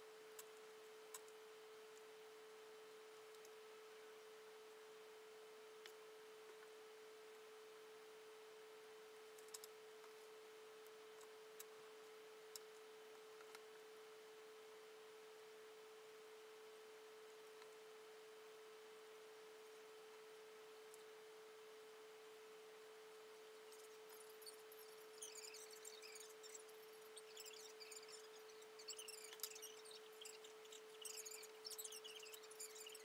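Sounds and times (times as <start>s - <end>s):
faint steady tone: 0.0s - 33.0s.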